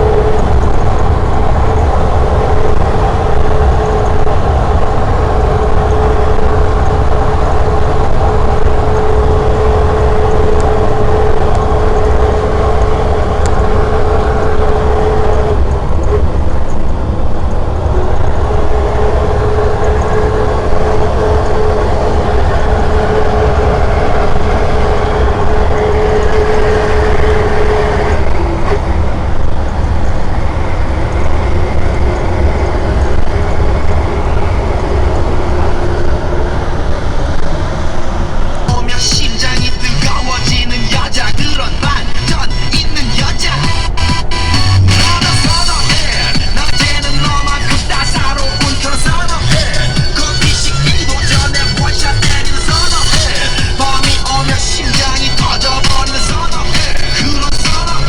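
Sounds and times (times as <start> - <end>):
high steady whine: 0.0 - 58.0
truck diesel engine rumbling: 0.0 - 58.0.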